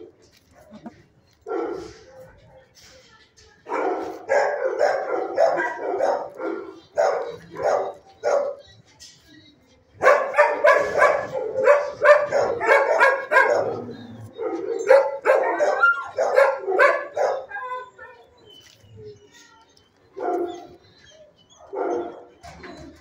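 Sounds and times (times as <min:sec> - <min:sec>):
dogs barking: 0:00.0 - 0:02.8, 0:03.6 - 0:08.8, 0:10.0 - 0:18.3, 0:20.0 - 0:23.0.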